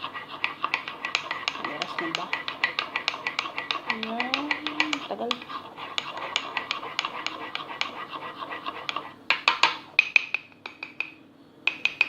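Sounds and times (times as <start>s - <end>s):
spoon stirring in a mug: 0.0s - 12.0s
spoon knocking against mug: 0.4s - 7.9s, 8.9s - 12.0s.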